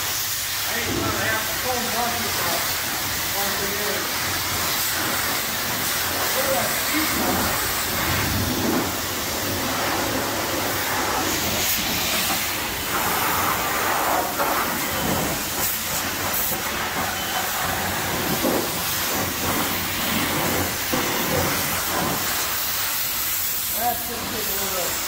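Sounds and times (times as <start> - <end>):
pressure washer spraying water: 0.0 - 25.0.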